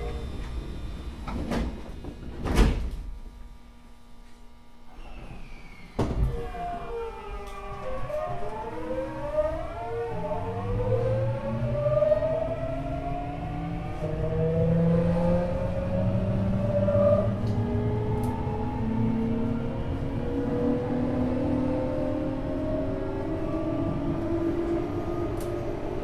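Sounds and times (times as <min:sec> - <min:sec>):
train car running noise: 0:00.0 - 0:11.5, 0:13.5 - 0:26.0
train inverter and motors whining: 0:00.0 - 0:26.0.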